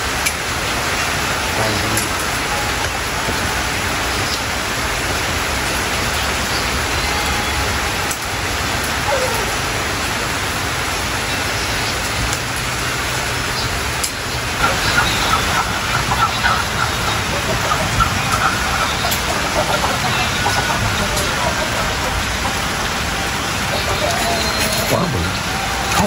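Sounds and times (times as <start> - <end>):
rain falling steadily: 0.0 - 26.0.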